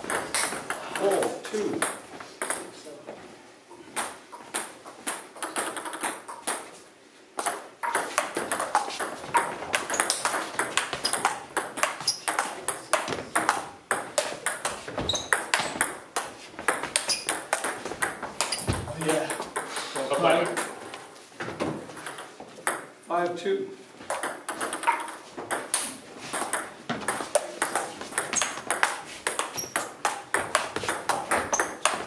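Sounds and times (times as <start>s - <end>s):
table tennis ball hits and bounces: 0.0s - 2.7s, 4.0s - 6.8s, 7.4s - 23.0s, 24.1s - 32.0s.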